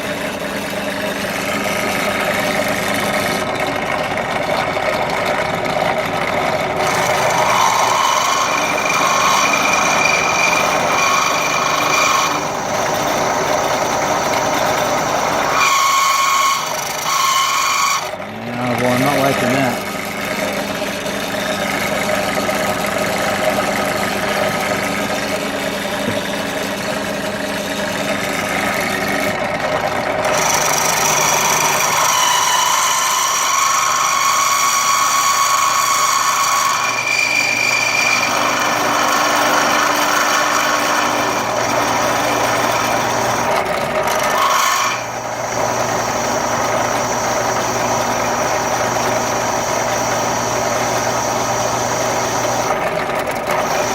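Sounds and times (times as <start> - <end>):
electric drill grinding through metal: 0.0 - 53.9.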